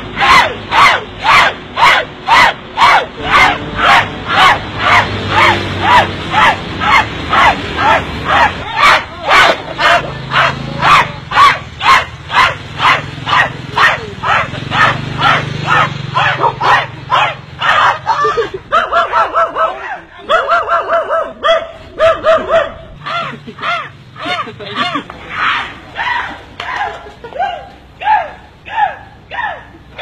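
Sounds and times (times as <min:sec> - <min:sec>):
dog barking: 0:00.2 - 0:25.0.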